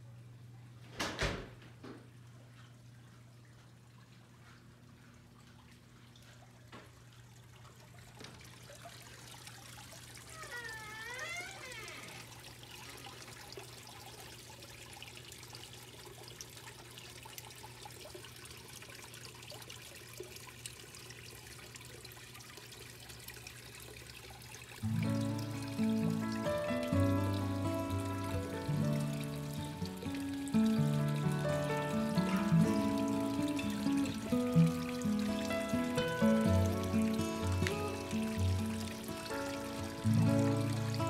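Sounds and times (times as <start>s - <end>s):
waterfall trickling and splashing: 3.5s - 41.0s.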